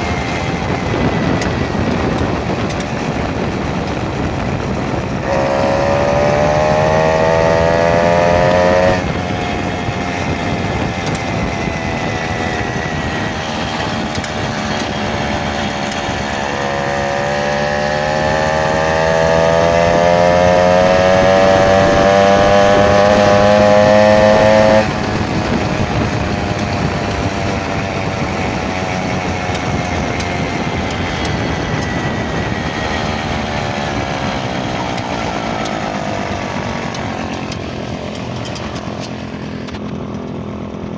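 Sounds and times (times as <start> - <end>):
moped engine running: 0.0 - 40.9
whining tone rising in pitch: 3.6 - 39.8.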